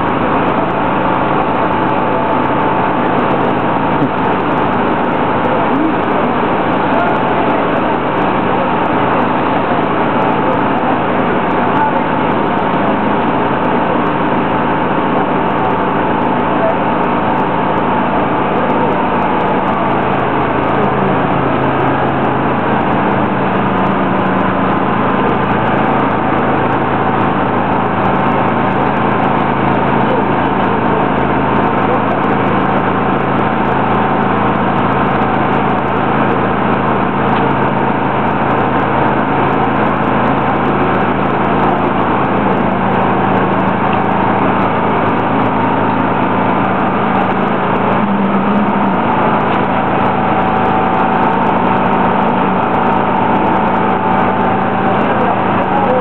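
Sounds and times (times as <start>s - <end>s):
crane engine running: 0.0s - 56.0s
deeper hum: 0.0s - 56.0s
voices: 0.0s - 56.0s.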